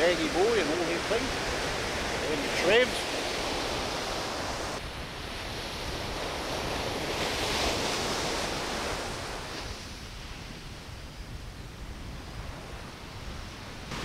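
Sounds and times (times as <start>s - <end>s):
surf washing onto beach: 0.0s - 11.6s, 12.2s - 14.0s
wind buffeting microphone: 0.0s - 14.0s.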